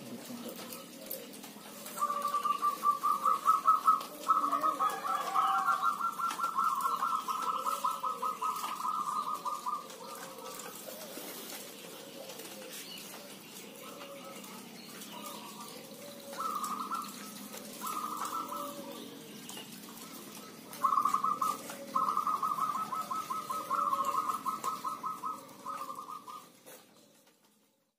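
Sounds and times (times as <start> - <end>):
doves cooing: 0.0 - 27.9.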